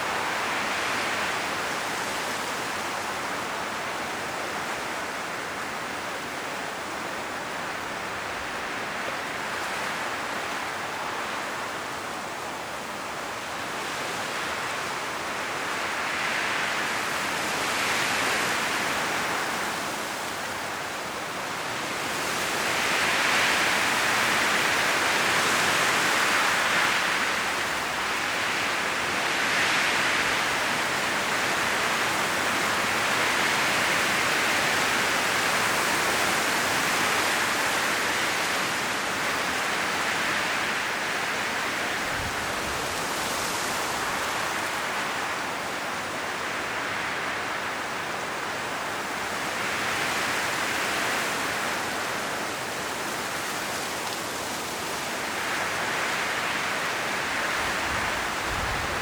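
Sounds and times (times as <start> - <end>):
high wind blowing through forest: 0.0 - 59.0.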